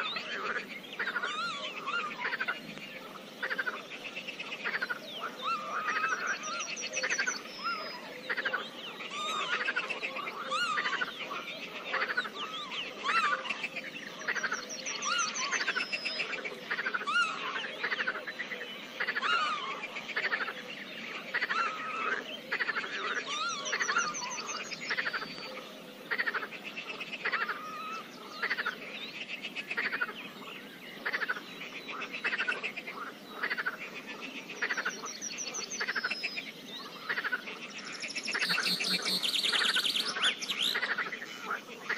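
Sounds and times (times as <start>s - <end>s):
frogs croaking: 0.0s - 41.9s.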